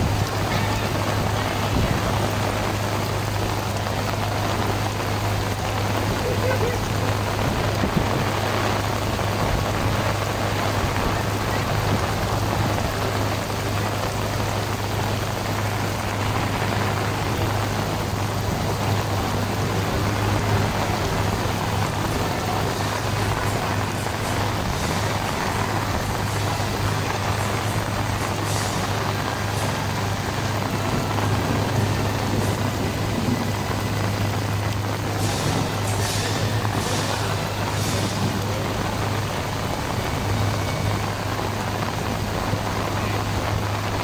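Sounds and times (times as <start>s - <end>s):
constant low hum: 0.0s - 44.0s
heavy rain hissing: 0.0s - 44.0s.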